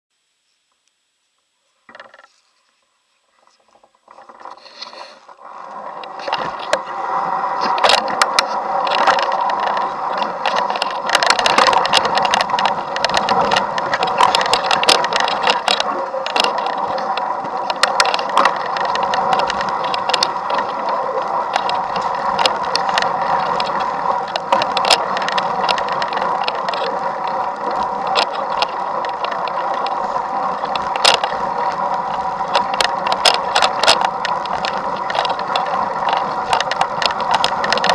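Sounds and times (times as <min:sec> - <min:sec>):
bike and mount rattling: 0:01.9 - 0:02.4, 0:07.6 - 0:37.9
bike riding over snow: 0:04.5 - 0:37.9.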